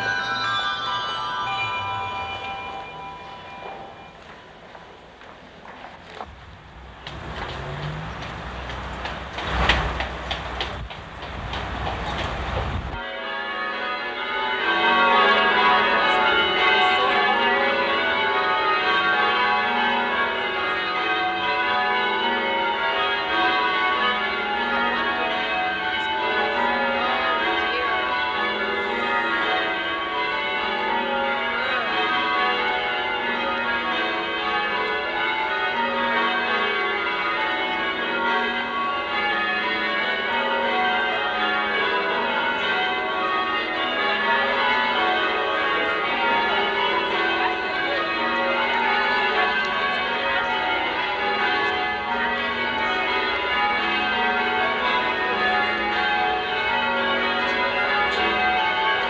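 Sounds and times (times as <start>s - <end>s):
church bells pealing: 0.0s - 5.0s, 12.9s - 59.0s.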